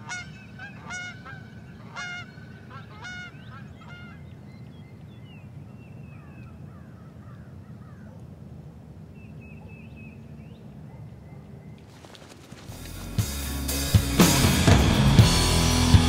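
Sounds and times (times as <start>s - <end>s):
wild birds calling: 0.0s - 8.3s, 9.1s - 13.6s.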